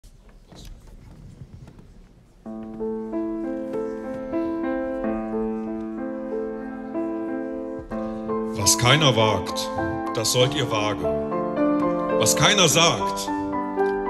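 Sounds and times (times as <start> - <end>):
grand piano playing broken chords: 2.4 - 14.0.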